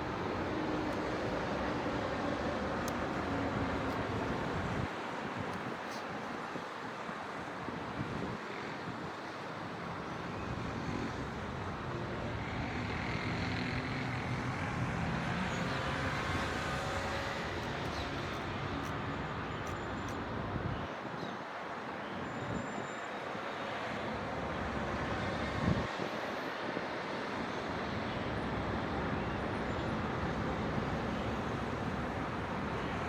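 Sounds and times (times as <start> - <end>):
city traffic noise: 0.0 - 33.0.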